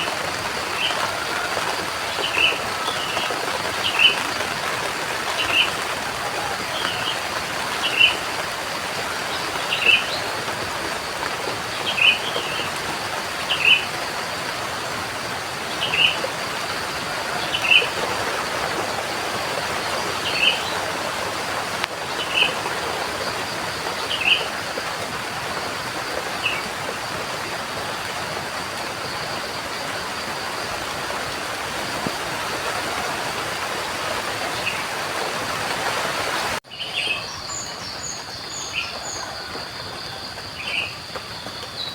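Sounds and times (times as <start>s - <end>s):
rain hiss: 0.0s - 41.9s.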